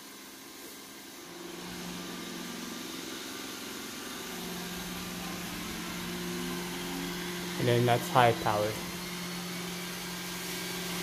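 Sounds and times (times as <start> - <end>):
robot vacuum running: 0.0 - 11.0.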